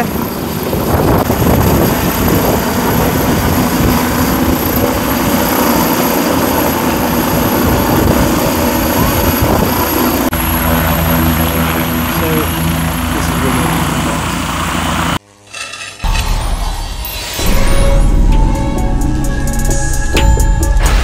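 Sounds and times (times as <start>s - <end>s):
helicopter rotor and engine noise: 0.0s - 20.5s.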